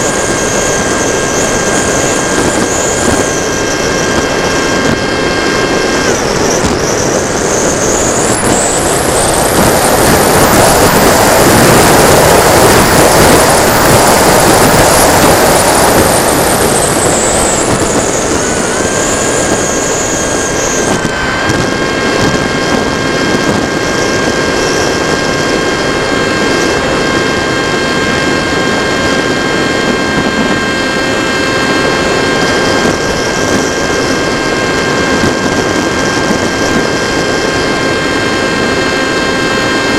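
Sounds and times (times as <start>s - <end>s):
electric motor high whine: 0.0s - 39.9s
wind rush on microphone: 0.0s - 39.9s.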